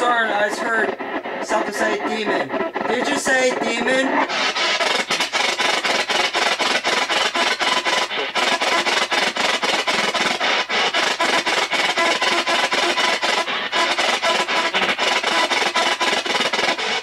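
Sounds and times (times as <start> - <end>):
radio static sweeping: 0.0 - 17.0.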